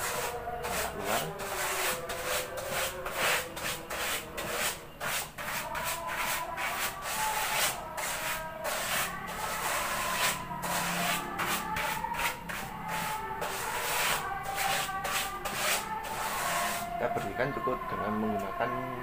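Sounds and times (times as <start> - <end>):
paintbrush scratching speaker cone: 0.0 - 17.0.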